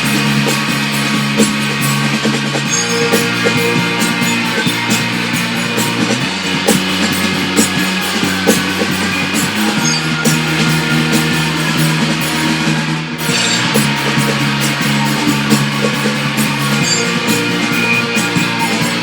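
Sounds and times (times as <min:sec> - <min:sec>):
shoegaze rock music: 0:00.0 - 0:19.0.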